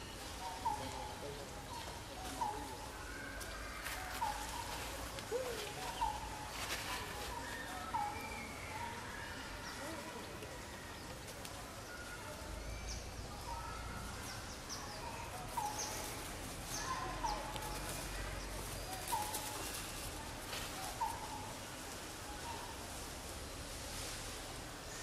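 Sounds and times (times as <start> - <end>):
birds chirping: 0.0 - 25.0
outdoor background hiss: 0.0 - 25.0.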